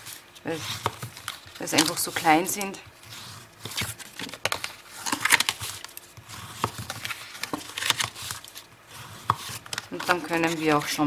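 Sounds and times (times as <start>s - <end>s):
cardstock crackling and rustling: 0.0s - 11.0s.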